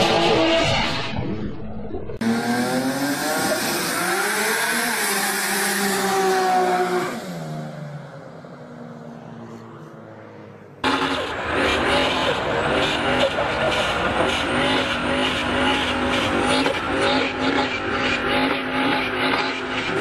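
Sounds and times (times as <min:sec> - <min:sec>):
car engine revving: 0:02.2 - 0:20.0.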